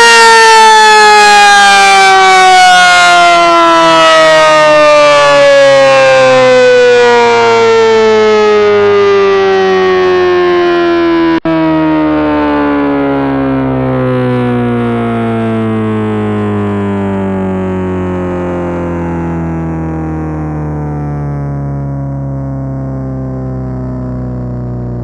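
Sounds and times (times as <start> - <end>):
electromechanical siren winding down: 0.0 - 25.0.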